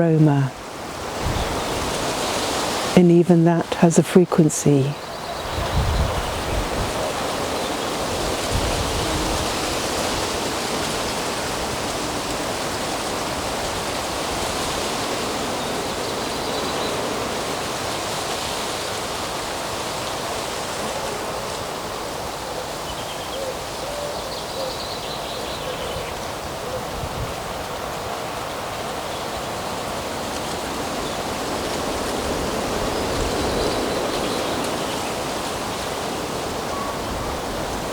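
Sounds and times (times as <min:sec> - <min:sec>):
wind through trees: 0:00.0 - 0:37.9.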